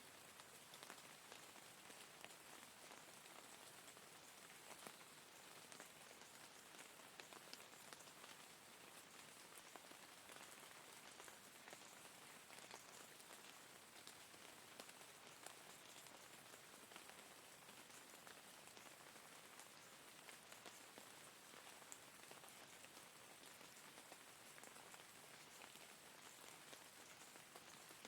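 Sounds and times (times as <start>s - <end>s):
rain falling faintly: 0.0s - 28.0s.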